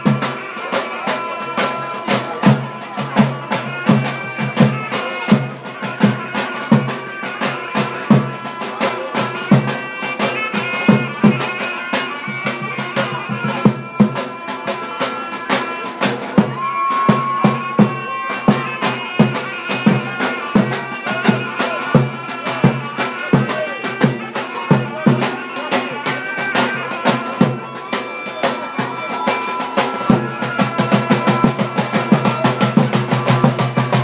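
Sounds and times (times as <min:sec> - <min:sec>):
big drum beating: 0:00.0 - 0:34.0
reed wind instrument melody: 0:00.0 - 0:34.0.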